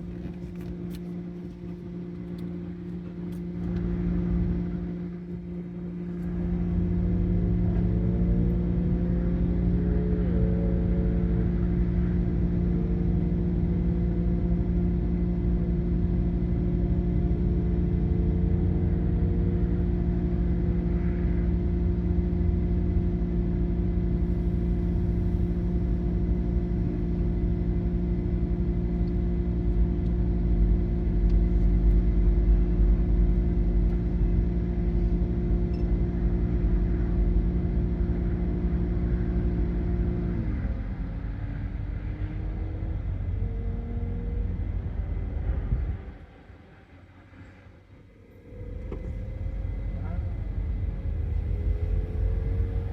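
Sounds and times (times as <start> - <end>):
car engine running: 0.0 - 52.9
road and wind rumble: 0.0 - 52.9.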